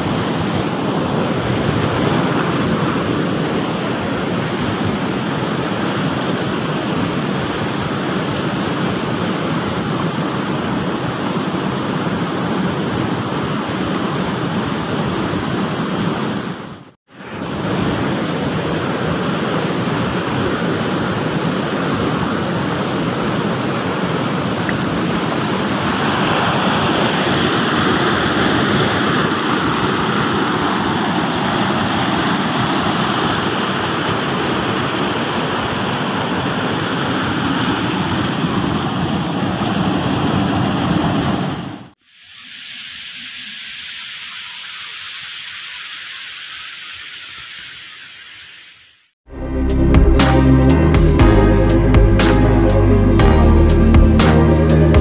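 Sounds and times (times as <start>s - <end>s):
stream water flowing: 0.0s - 48.2s.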